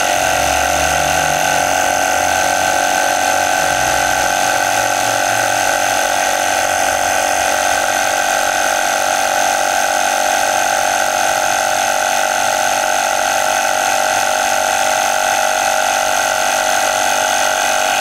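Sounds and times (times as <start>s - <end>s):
air compressor buzzing: 0.0s - 18.0s.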